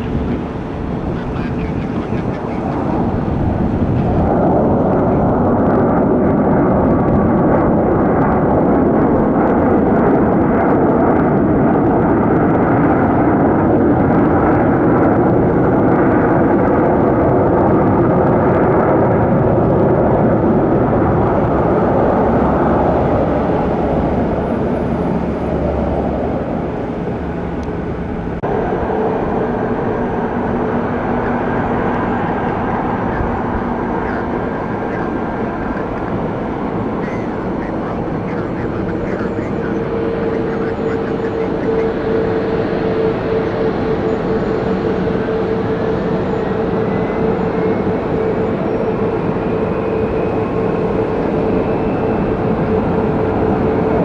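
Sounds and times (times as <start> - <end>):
aircraft engines rushing: 0.0 - 54.0
low engine hum: 0.0 - 54.0.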